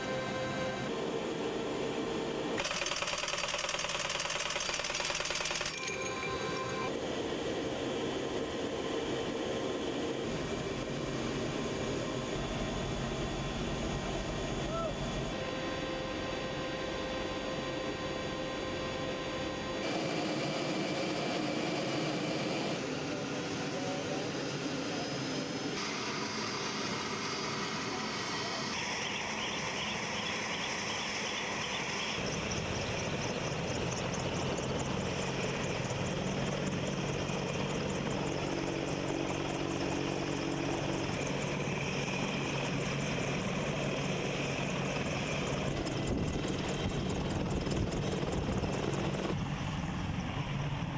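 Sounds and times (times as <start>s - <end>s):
helicopter rotor drone: 0.0s - 50.9s
helicopter turbine engine whine: 0.0s - 50.9s.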